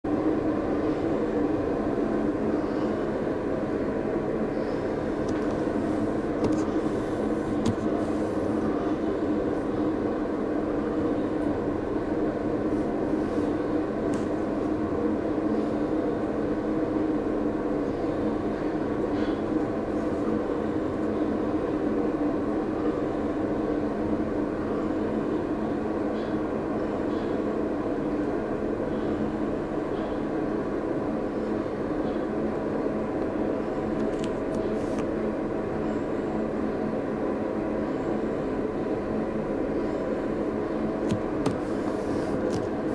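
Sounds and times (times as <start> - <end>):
vending machine compressor hum: 0.0 - 42.9.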